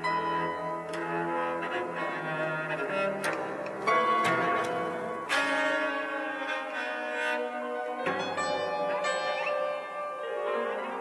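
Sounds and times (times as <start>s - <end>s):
bowed cello: 0.0s - 11.0s
piano notes: 0.0s - 11.0s.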